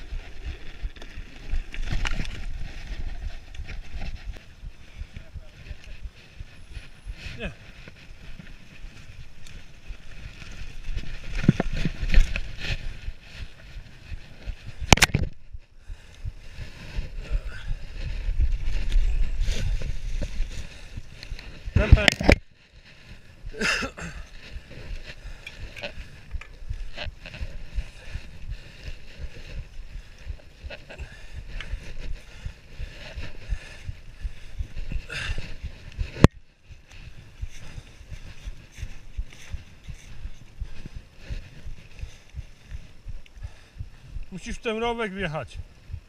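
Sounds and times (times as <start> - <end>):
bike knocking and rattling: 0.0 - 44.6.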